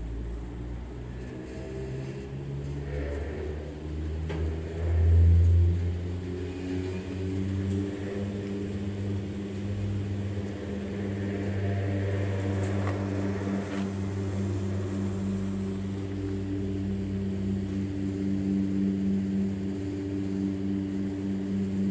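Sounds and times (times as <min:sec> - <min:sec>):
gondola lift machinery hum: 0:00.0 - 0:21.9.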